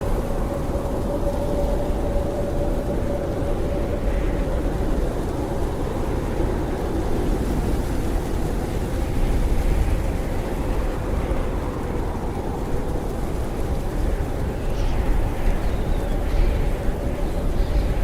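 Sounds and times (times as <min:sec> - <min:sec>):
blizzard wind howling: 0:00.0 - 0:18.0.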